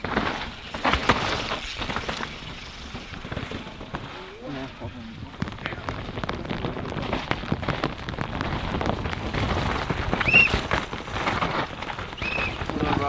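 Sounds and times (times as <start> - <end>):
mountain bike clattering over rocks: 0.0 - 13.0
rain hissing: 0.0 - 13.0.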